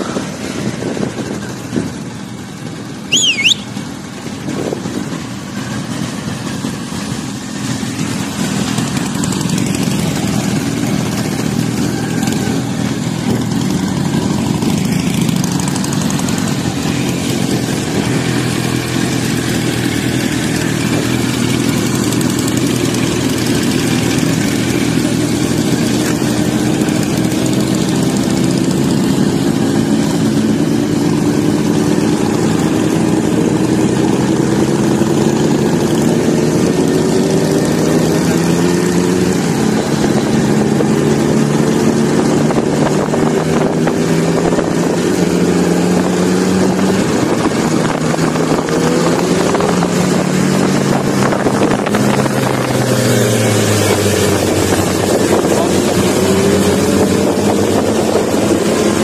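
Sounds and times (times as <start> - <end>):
motorcycle engines cruising: 0.0 - 59.0
wind and road noise: 0.0 - 59.0.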